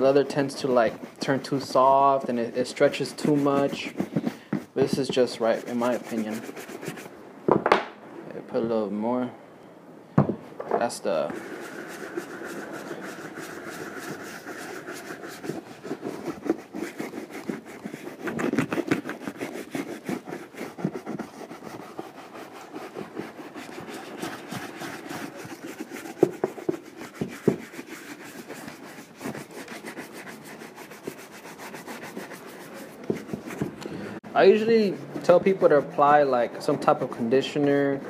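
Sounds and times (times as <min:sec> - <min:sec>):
brush scrubbing leather boot: 0:00.0 - 0:07.1, 0:11.1 - 0:33.8, 0:34.4 - 0:38.0.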